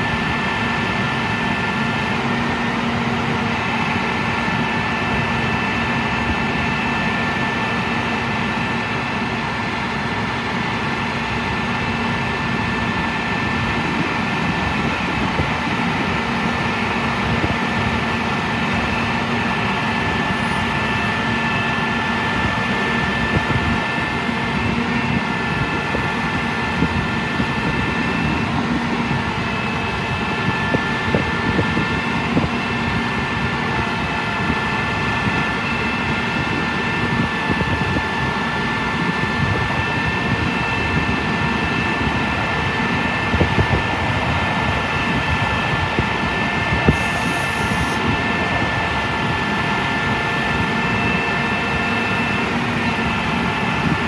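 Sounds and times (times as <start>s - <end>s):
diesel engine running: 0.0s - 54.0s
high hydraulic whine: 0.0s - 54.0s.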